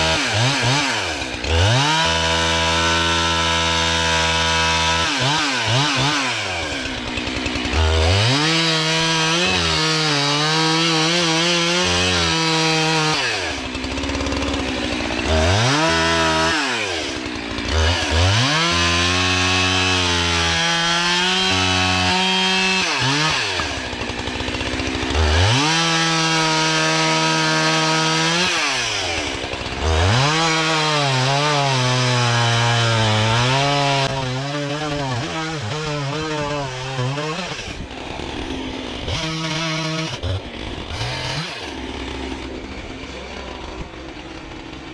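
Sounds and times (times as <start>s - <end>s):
chainsaw cutting logs: 0.0s - 44.9s.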